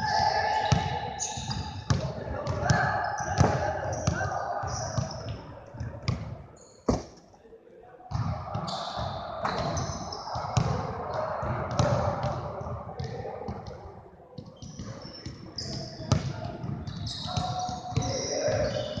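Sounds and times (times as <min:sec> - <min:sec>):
basketballs dribbling: 0:00.0 - 0:06.3, 0:08.1 - 0:19.0.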